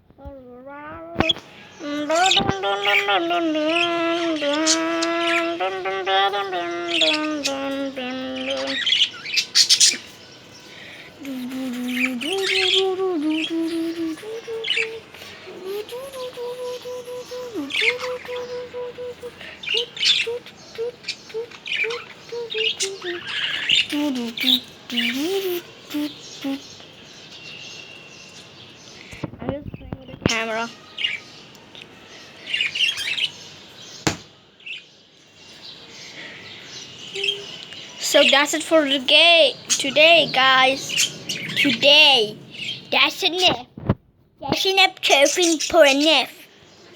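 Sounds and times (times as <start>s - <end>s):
cage birds chirping and squawking: 0.7s - 43.9s, 44.5s - 46.9s.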